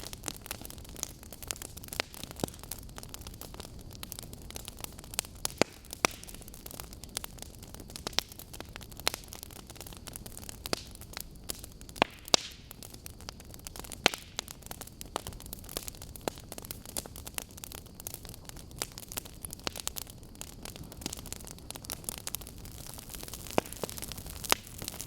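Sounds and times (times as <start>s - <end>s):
logs crackling and popping: 0.0s - 25.0s
low rush of fire: 0.0s - 25.0s.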